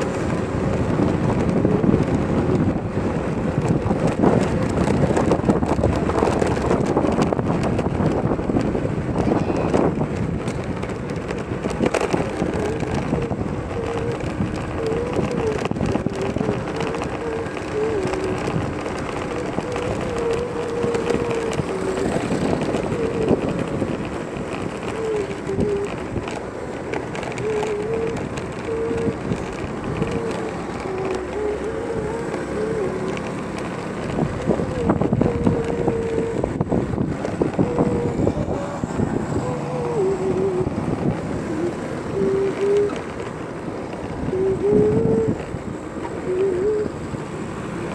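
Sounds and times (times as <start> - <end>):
traffic noise: 0.0 - 47.9
wind on microphone: 0.0 - 47.9.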